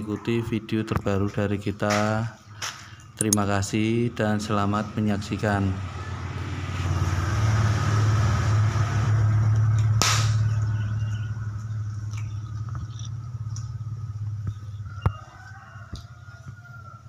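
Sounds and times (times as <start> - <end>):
low engine hum: 0.0 - 16.7.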